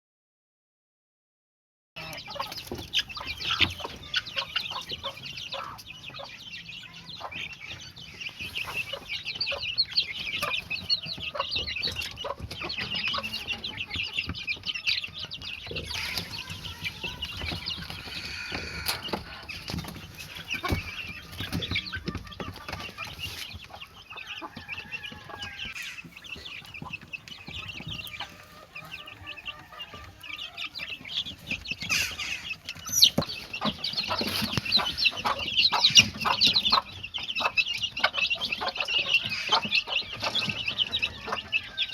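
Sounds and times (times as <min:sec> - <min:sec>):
birds chattering: 0:02.0 - 0:41.9.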